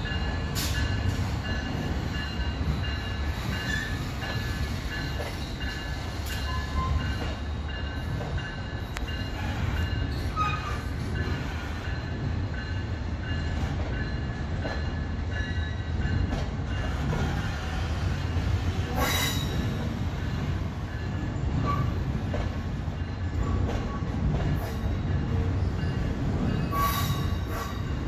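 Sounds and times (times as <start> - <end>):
train cars rolling rumble: 0.0 - 28.0.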